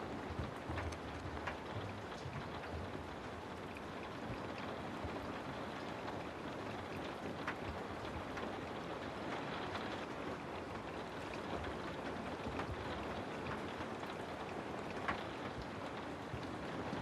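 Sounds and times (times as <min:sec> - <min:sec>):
rain hissing on a house: 0:00.0 - 0:17.0
raindrops ticking: 0:00.0 - 0:17.0.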